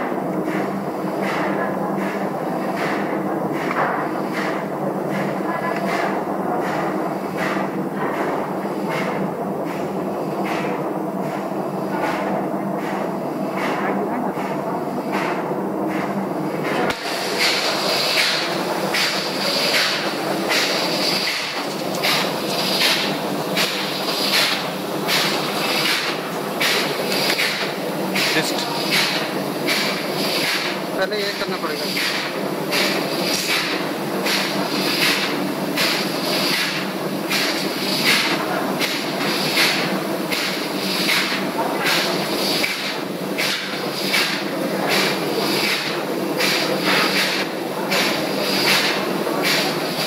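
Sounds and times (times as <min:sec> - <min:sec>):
pulsing engine-room machinery: 0:00.0 - 0:50.0.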